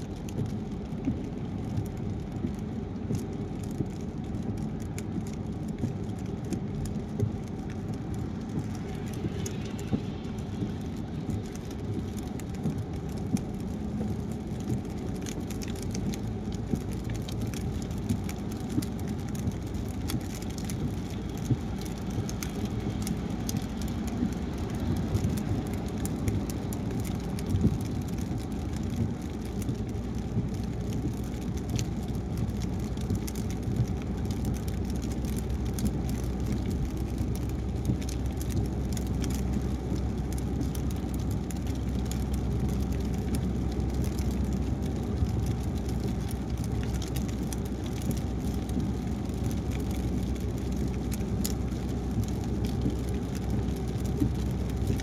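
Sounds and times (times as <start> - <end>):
raindrop ticks: 0.0 - 55.0
tyres and engine rumble: 0.0 - 55.0.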